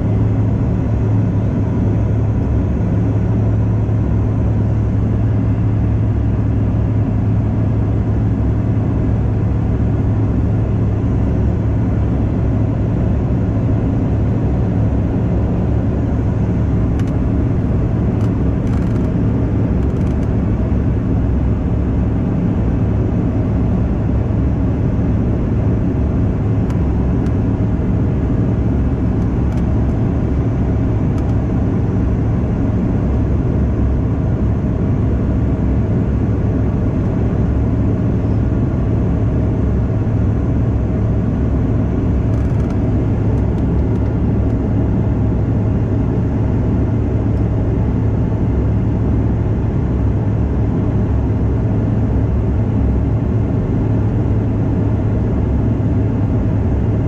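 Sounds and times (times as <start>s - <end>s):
jet cabin hum: 0.0s - 57.0s.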